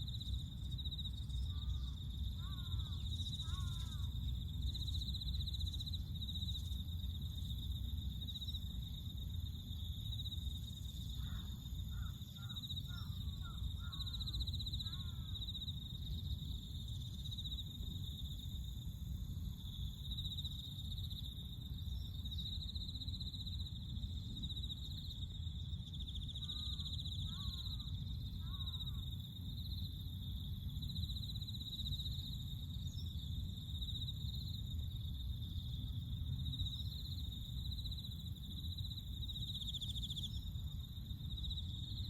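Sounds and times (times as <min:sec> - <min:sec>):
high pulsing insect trill: 0:00.0 - 0:42.0.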